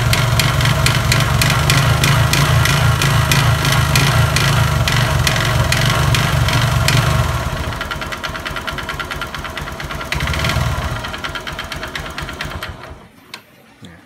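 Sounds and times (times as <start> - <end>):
engine running with rattling knock: 0.0 - 13.0.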